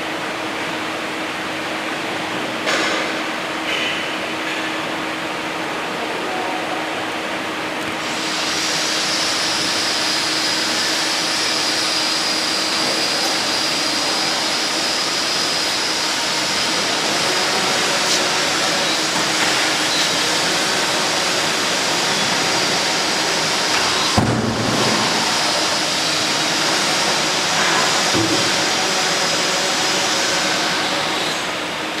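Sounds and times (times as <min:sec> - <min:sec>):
machinery hiss and whine: 0:00.0 - 0:32.0.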